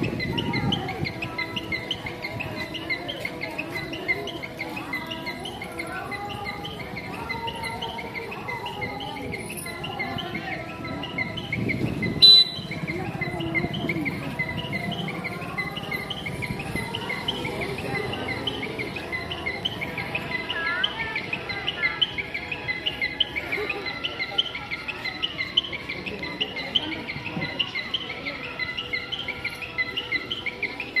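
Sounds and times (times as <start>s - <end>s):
gliding calls: 0.0s - 31.0s.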